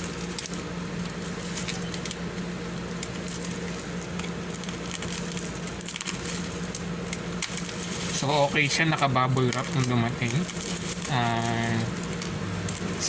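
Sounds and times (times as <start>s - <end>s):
bubble wrap rustling: 0.0s - 13.0s
plastic parcel crackling: 0.0s - 13.0s
steady low hum: 0.0s - 13.0s.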